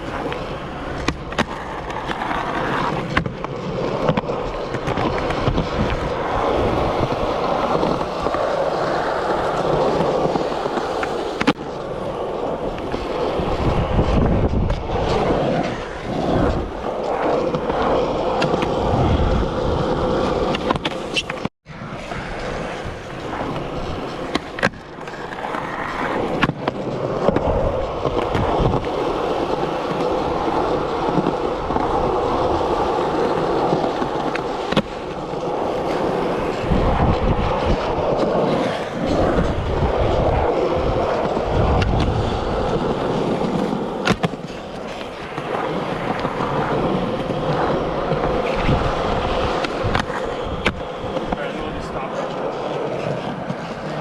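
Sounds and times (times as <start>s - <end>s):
skateboard clacking on ground: 0.0s - 54.0s
skateboard wheels rolling on concrete: 0.0s - 54.0s.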